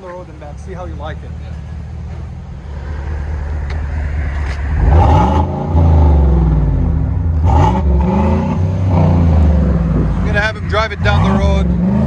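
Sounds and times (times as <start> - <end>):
truck exhaust accelerating: 0.0 - 12.0.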